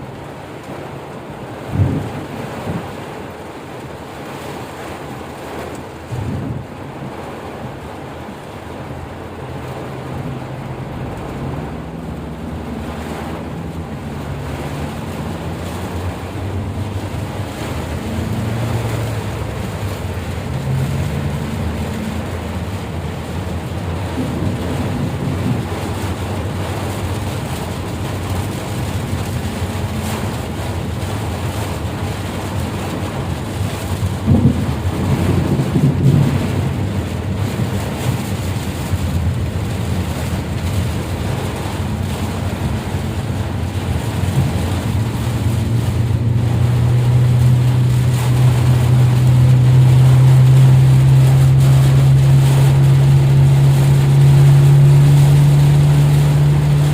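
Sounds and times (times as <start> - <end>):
rain on wet road: 0.0 - 56.9
vehicle engine hum: 0.0 - 56.9.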